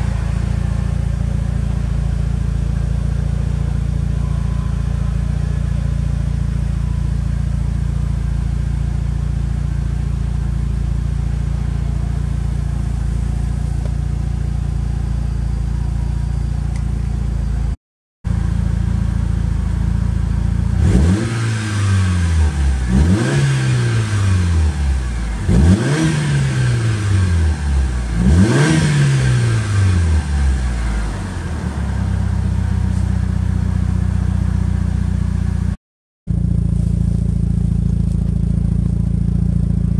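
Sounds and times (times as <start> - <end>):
car engine revving: 0.0 - 17.7, 18.4 - 35.6
car engine idling: 0.0 - 39.9.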